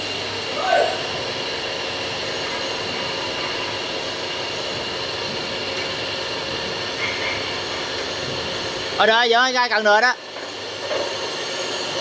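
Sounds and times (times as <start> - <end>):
faint steady whining tones: 0.0 - 12.0
hydraulic power unit droning: 0.0 - 12.0.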